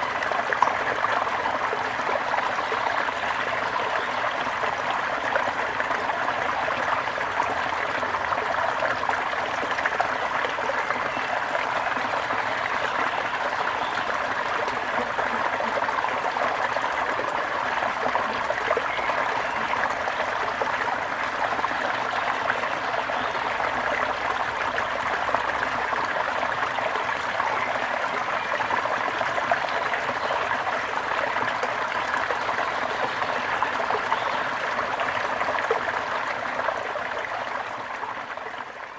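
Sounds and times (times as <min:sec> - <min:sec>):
brook babbling over stones: 0:00.0 - 0:38.9.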